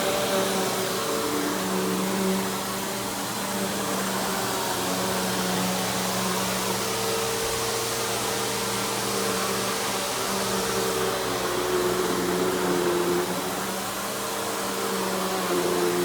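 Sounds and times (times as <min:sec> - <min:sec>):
upright vacuum cleaner running: 0:00.0 - 0:16.0.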